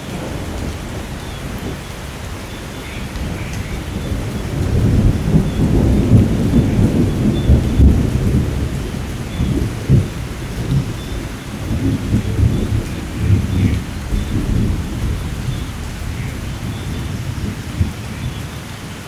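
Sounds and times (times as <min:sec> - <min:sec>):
thunder rolling: 0:00.0 - 0:18.6
steady rain: 0:00.0 - 0:19.0.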